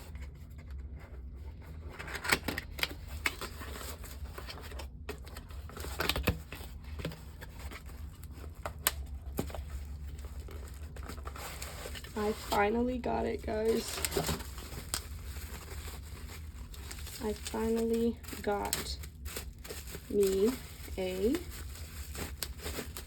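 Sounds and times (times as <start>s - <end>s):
plastic and paper rustling: 0.0s - 23.0s.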